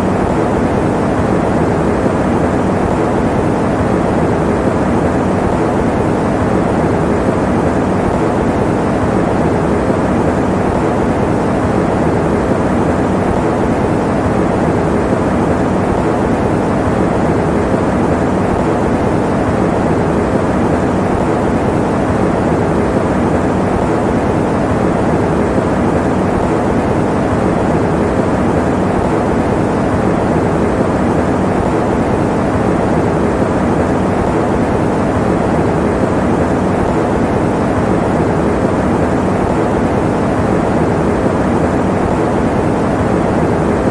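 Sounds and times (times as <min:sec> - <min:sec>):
electric fan running: 0:00.0 - 0:43.9.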